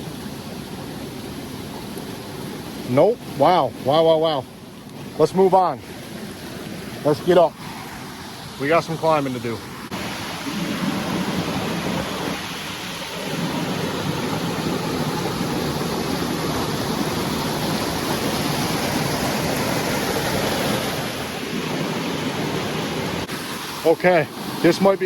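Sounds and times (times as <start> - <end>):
creek water rushing over falls: 0.0 - 25.0.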